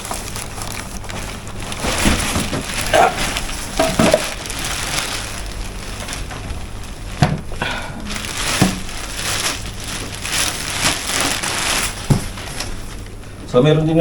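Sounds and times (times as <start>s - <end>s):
plastic packaging rustling: 0.0s - 14.0s.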